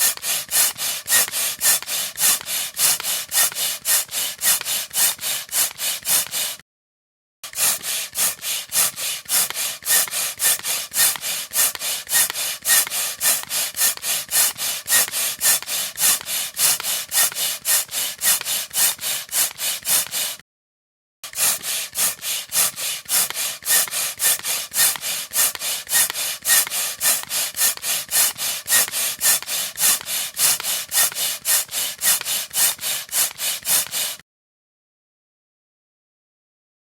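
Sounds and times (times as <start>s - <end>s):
air pump hissing strokes: 0.0s - 6.6s, 7.5s - 20.4s, 21.3s - 34.2s.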